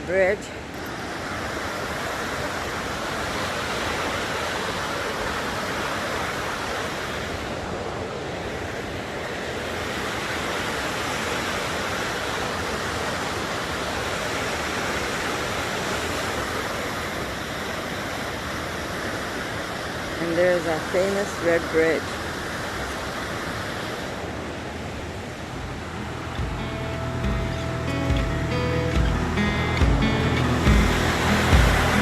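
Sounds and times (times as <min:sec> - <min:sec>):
river rapids rushing: 0:00.0 - 0:32.0.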